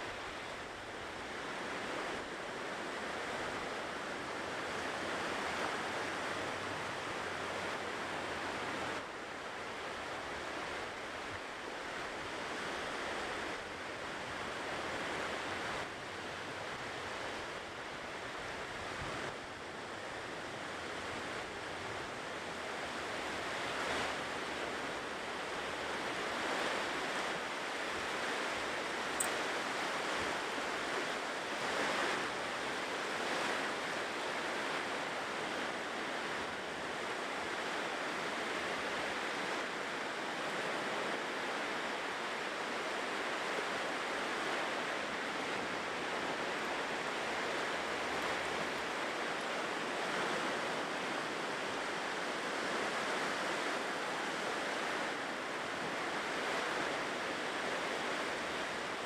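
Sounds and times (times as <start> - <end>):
ocean surf washing ashore: 0.0 - 59.0.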